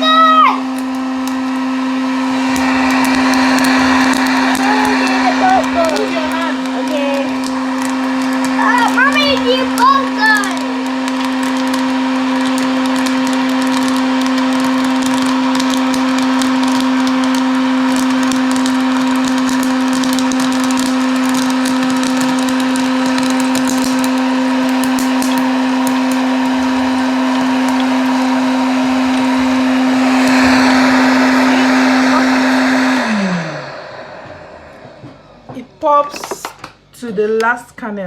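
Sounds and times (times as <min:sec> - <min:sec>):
popcorn kernels popping: 0:00.0 - 0:33.6, 0:35.9 - 0:37.5
popcorn maker motor hum: 0:00.0 - 0:36.8.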